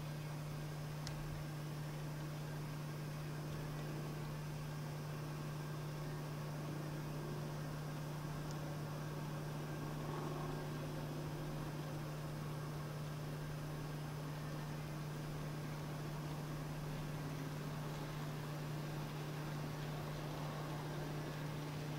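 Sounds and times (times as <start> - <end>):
model train motor hum: 3.4 - 21.9.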